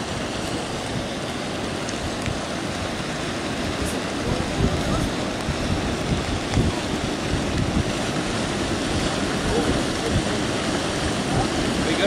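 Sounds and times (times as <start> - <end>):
river rushing: 0.0 - 12.0
wind buffeting microphone: 0.0 - 12.0.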